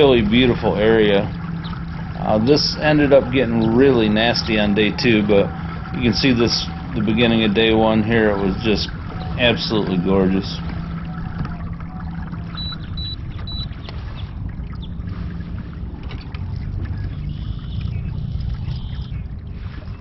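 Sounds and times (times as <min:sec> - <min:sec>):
low rumble of water and wind: 0:00.0 - 0:20.0.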